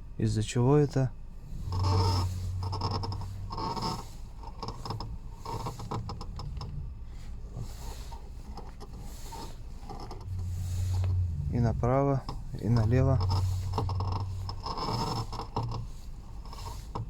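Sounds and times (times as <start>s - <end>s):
steering wheel squeaking and creaking: 1.2s - 17.0s.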